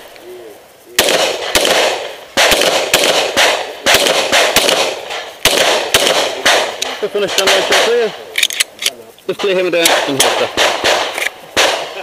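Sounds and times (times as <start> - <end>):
pistol shots with echo: 1.0 - 8.4, 9.4 - 12.0.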